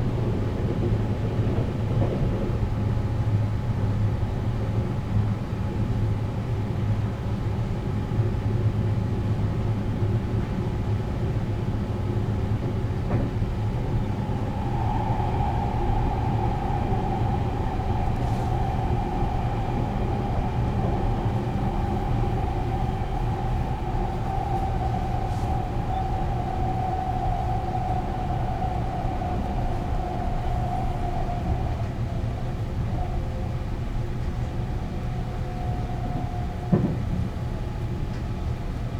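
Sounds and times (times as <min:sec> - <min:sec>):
train wheels rumbling on rail: 0:00.0 - 0:08.5, 0:09.2 - 0:38.9.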